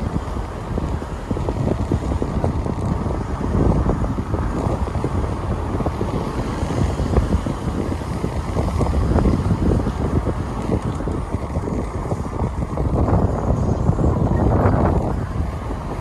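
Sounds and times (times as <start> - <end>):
car road rumble: 0.0 - 16.0
wind buffeting microphone: 0.0 - 16.0.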